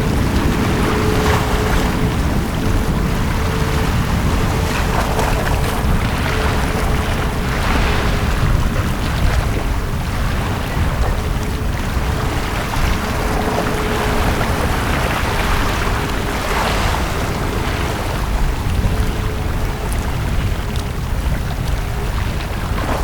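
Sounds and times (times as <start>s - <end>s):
sea waves washing on beach: 0.0s - 23.0s.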